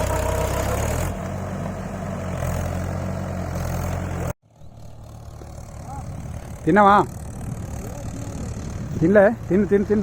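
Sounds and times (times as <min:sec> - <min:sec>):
tractor engine throbbing: 0:00.0 - 0:10.0.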